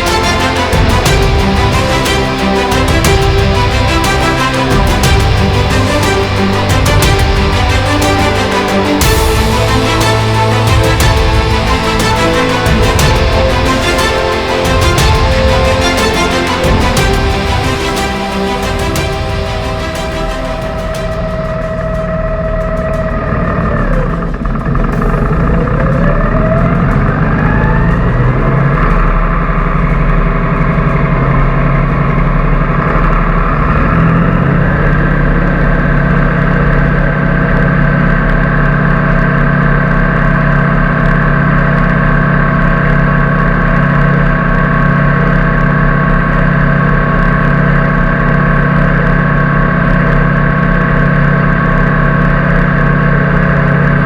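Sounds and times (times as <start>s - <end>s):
tractor engine whining: 0.0s - 54.0s.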